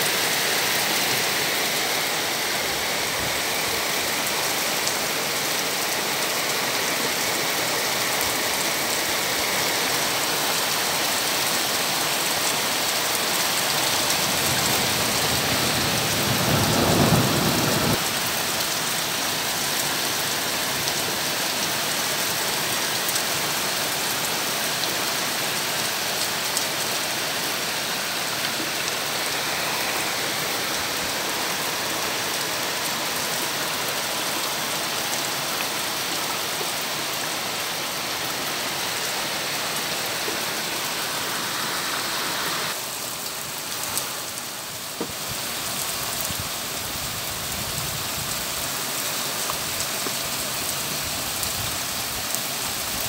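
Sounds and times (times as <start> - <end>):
heavy rain on roofs: 0.0 - 53.0.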